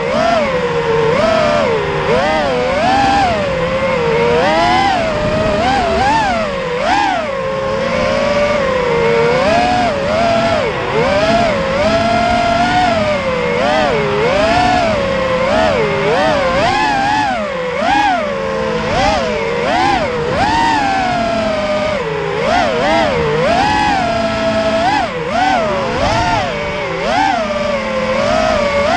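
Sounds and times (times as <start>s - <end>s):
quadcopter motors whining: 0.0s - 28.9s.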